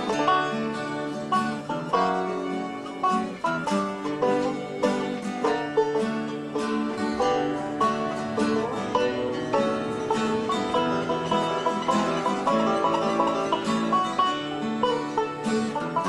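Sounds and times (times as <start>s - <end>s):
bluegrass string music: 0.0s - 16.0s.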